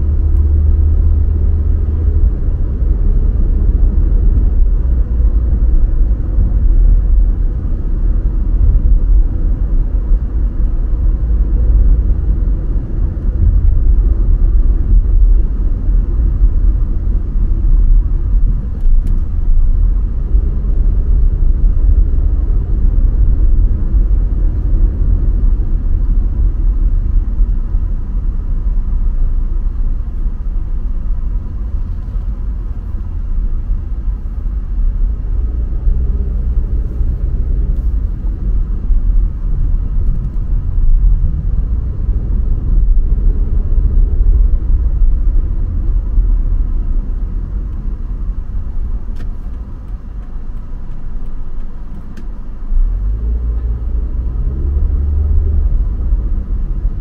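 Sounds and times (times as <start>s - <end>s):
car driving rumble: 0.0s - 57.0s.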